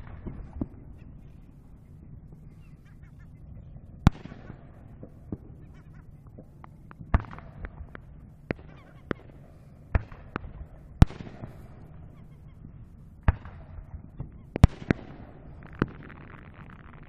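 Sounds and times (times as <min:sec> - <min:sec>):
distant fireworks bangs: 0:00.0 - 0:17.0.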